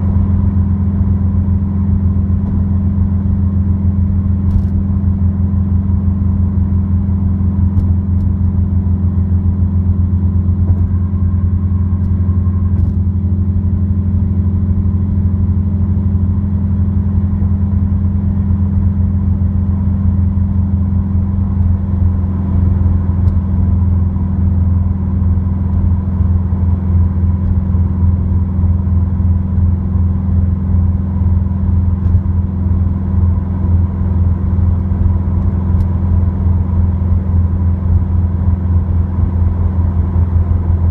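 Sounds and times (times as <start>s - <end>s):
deep exhaust drone: 0.0s - 40.9s.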